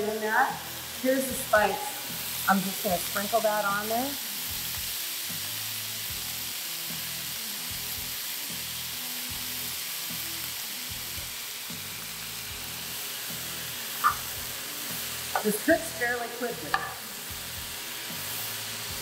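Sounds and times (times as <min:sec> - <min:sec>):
faint background music: 0:00.0 - 0:19.0
food sizzling in a frying pan: 0:00.0 - 0:19.0.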